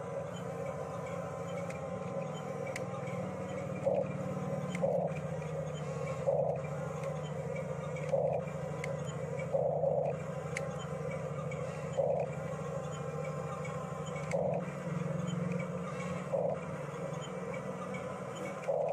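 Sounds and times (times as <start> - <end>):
small electric motors whirring: 0.0 - 18.9.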